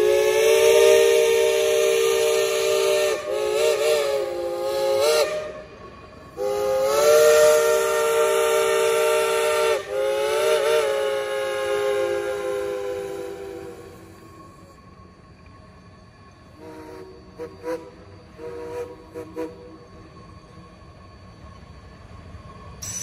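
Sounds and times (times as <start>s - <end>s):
steam locomotive chime whistle: 0.0s - 15.2s, 16.4s - 21.1s, 22.8s - 23.0s.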